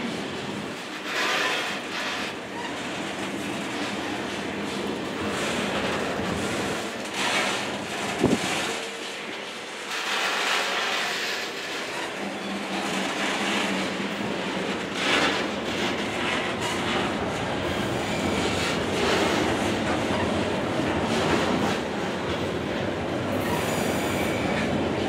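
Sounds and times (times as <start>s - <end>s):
freight train rumbling past: 0.0s - 25.0s
wheels clunking over rail joints: 0.5s - 23.6s.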